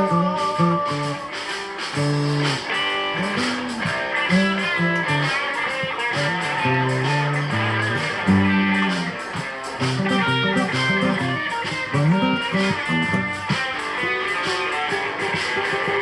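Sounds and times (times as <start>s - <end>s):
electric guitar melody: 0.0s - 16.0s
live blues band playing: 0.0s - 16.0s.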